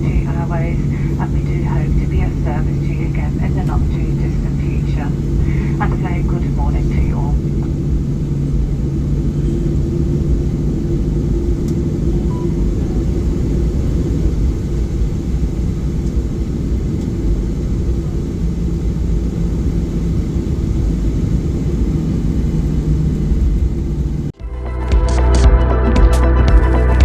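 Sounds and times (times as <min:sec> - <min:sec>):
airplane cabin rumble: 0:00.0 - 0:24.4
low hum: 0:00.0 - 0:24.4.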